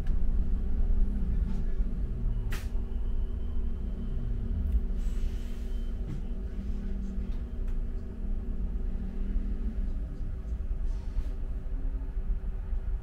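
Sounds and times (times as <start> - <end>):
bus interior rumble: 0.0 - 13.0
low drone: 0.0 - 13.0.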